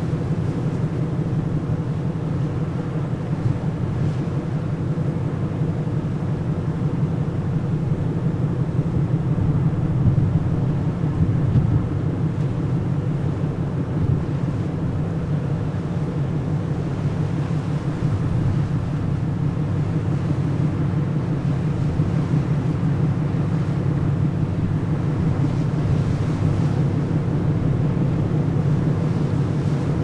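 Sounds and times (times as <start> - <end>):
ferry engines droning: 0.0 - 30.0.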